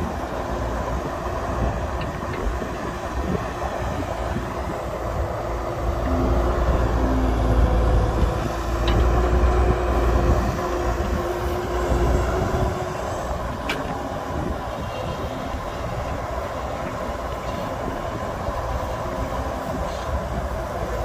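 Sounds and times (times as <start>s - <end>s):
excavator diesel engine rumbling: 0.0s - 21.0s.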